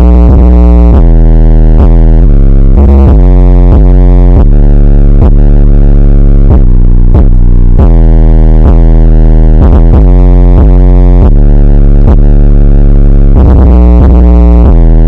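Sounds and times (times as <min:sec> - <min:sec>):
bass-boosted electronic music: 0:00.0 - 0:15.0.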